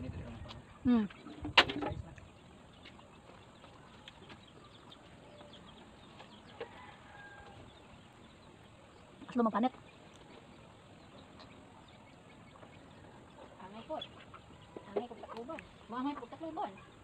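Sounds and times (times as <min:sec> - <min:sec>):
chickens clucking: 0:00.2 - 0:17.0.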